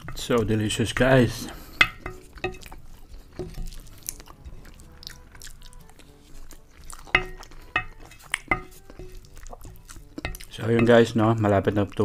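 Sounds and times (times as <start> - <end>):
wooden spoon scraping a plate: 0.0 - 4.9, 5.9 - 11.2
chewing and mouth sounds: 1.4 - 11.1.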